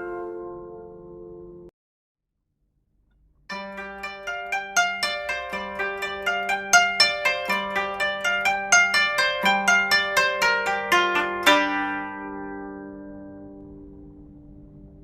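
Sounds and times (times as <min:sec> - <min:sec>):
plucked string melody: 0:00.0 - 0:01.7, 0:03.5 - 0:15.0.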